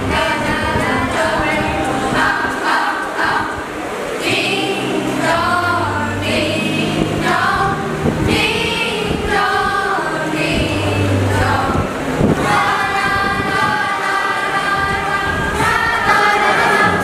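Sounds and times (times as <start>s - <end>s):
girls choir singing: 0.0s - 17.0s.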